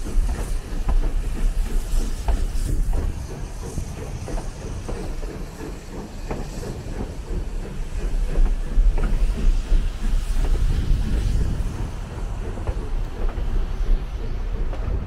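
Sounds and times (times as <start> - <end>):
train low rumble: 0.0 - 15.0
train wheel clicks: 0.0 - 15.0.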